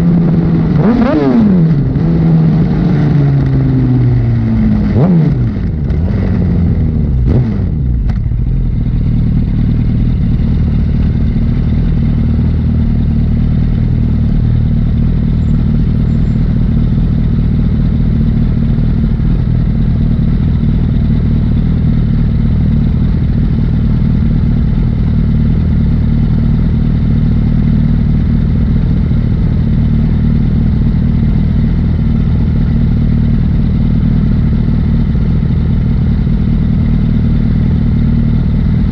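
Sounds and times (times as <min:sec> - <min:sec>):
motorcycle engine slowing and idling: 0:00.0 - 0:38.9.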